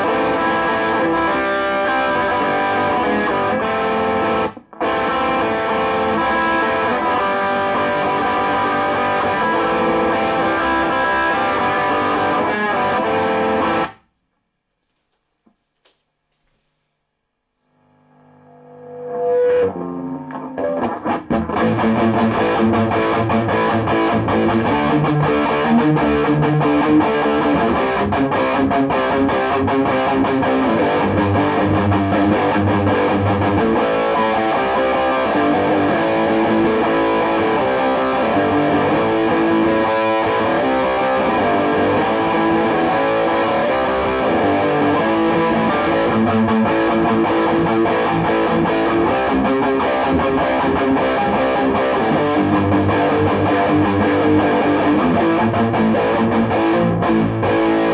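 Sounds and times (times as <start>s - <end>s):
distorted electric guitar: 0.0s - 14.1s, 17.6s - 57.9s.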